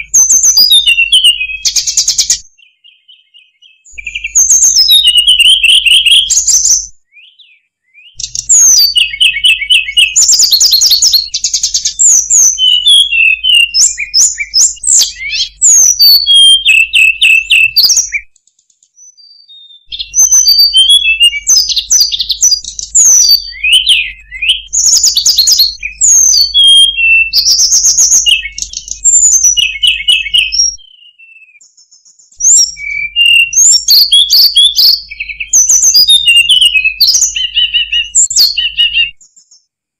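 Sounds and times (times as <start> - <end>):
recorded bird song chirps and trills: 0.0 - 39.9.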